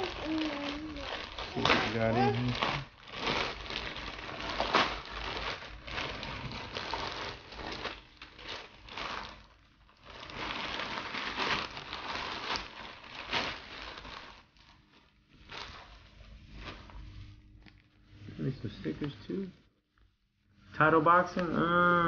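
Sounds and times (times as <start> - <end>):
packaging crinkling and rustling: 0.0 - 19.5.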